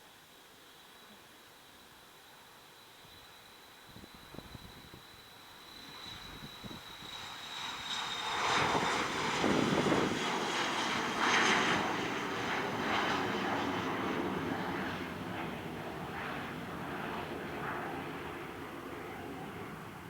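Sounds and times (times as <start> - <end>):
jet engines at take-off: 1.7 - 20.0.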